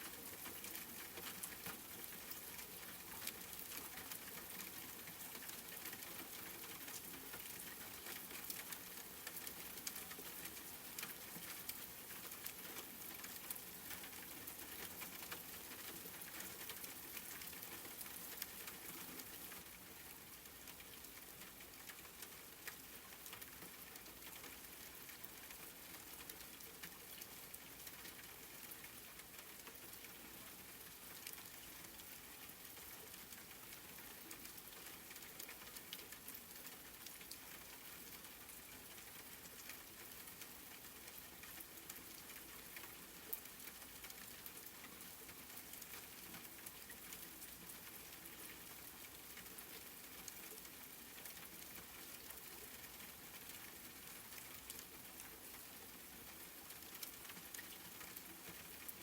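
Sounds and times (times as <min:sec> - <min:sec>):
faint steady rain: 0:00.0 - 0:59.0.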